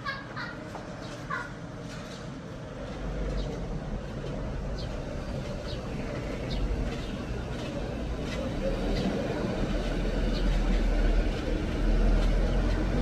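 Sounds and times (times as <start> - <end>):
steady low rumble: 0.6 - 13.0.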